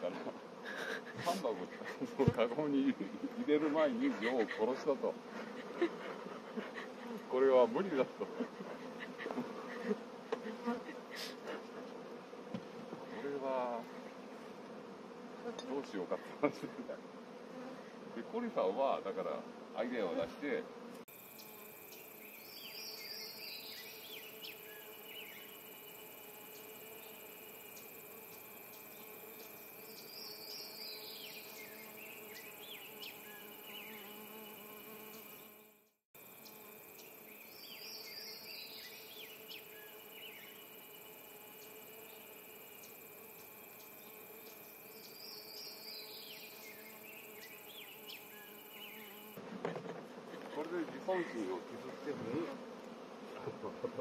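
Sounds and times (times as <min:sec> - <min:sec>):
bees buzzing: 0:00.0 - 0:54.0
high bee chirps: 0:00.4 - 0:49.6.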